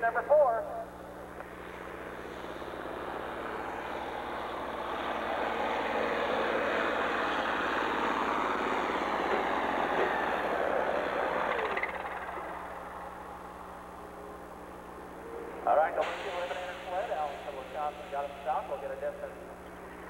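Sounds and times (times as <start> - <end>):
tractor diesel engine under load: 1.2 - 20.0.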